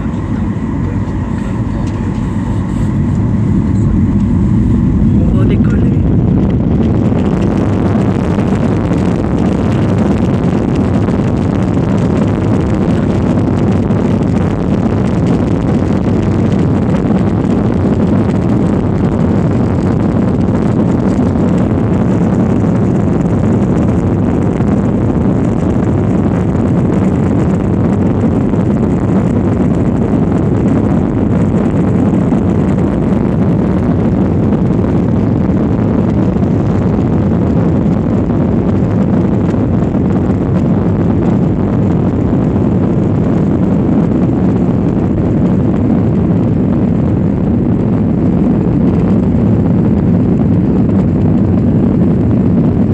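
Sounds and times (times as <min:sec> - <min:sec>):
jet engines cabin noise: 0:00.0 - 0:52.9.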